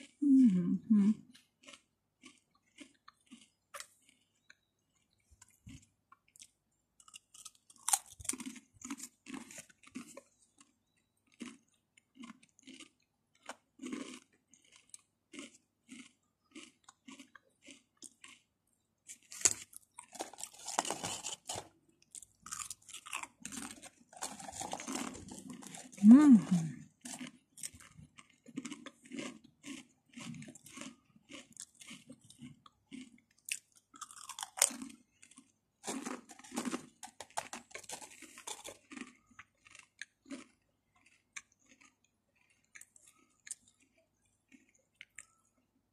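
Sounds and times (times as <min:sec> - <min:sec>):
chewing crunchy crisps: 0:00.0 - 0:00.4, 0:01.0 - 0:45.9.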